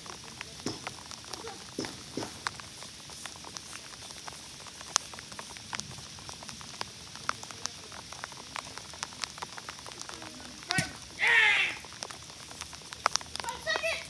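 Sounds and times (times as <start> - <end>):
rain hissing: 0.0 - 14.0
raindrops ticking: 0.0 - 14.0.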